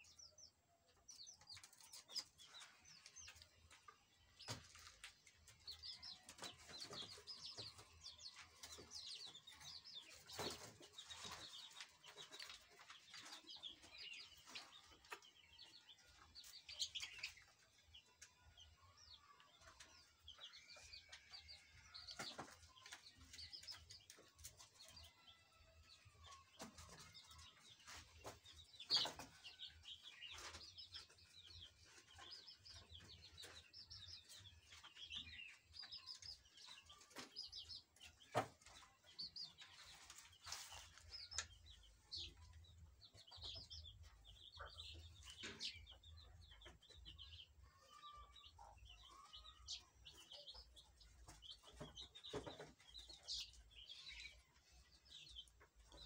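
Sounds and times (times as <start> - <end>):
chickens peeping and chirping: 0.0 - 56.0.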